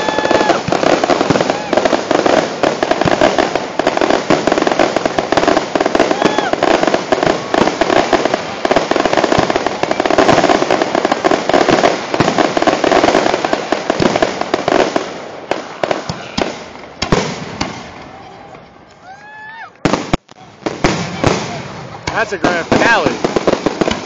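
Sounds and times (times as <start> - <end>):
fireworks booms: 0.0 - 18.8, 19.8 - 24.0
fireworks bangs and crackles: 0.0 - 24.0.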